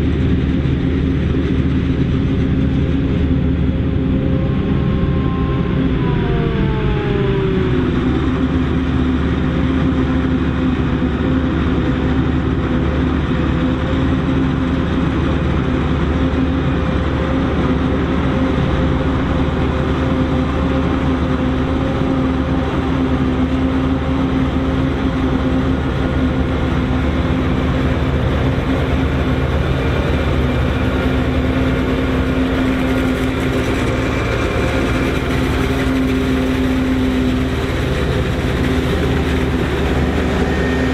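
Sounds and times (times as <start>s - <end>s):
forage harvester machinery drone: 0.0s - 40.9s.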